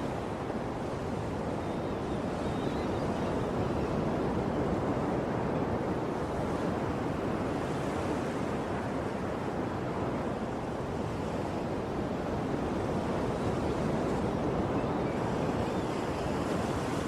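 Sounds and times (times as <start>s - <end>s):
ocean waves on a shore: 0.0s - 17.0s.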